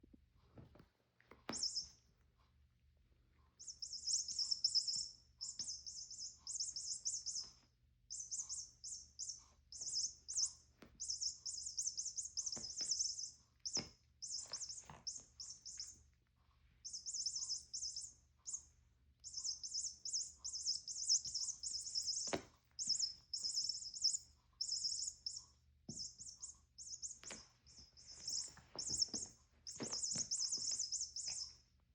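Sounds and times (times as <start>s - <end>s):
small bird twittering: 3.6s - 16.1s, 16.8s - 31.7s.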